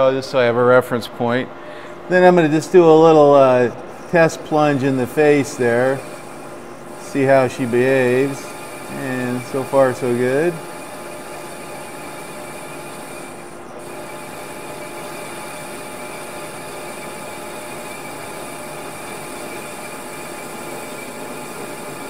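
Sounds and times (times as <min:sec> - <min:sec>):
lathe humming: 0:02.0 - 0:22.0
lathe tool scraping metal: 0:03.9 - 0:22.0.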